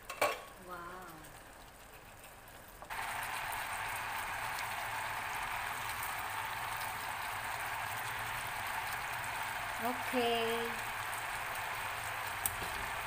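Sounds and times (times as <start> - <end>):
sauce bubbling and sizzling in a pan: 0.0 - 13.0.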